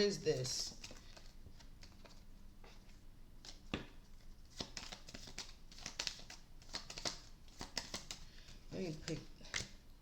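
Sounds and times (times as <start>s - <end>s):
cards rustling and sliding: 0.4s - 9.8s.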